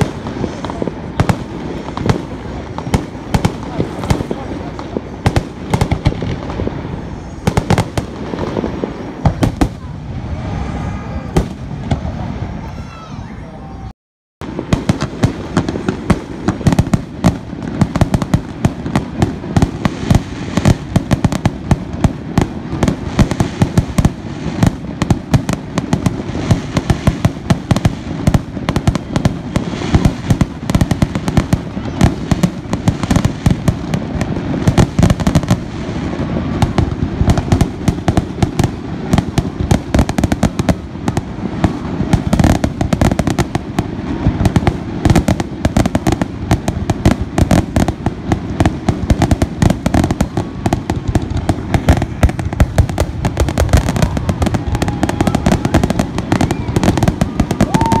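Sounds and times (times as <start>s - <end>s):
loud firework bangs: 0.0s - 13.8s, 14.4s - 58.0s
fireworks bursting and crackling: 0.0s - 58.0s.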